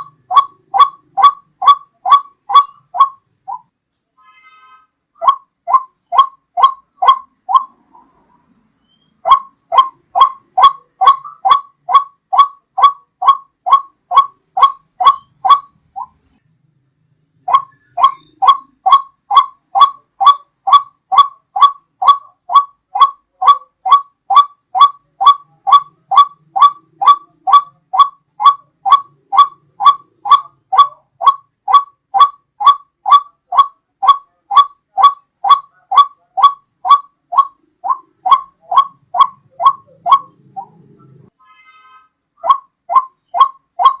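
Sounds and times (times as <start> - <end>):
repeated bird call: 0.0 - 16.5, 17.3 - 44.0.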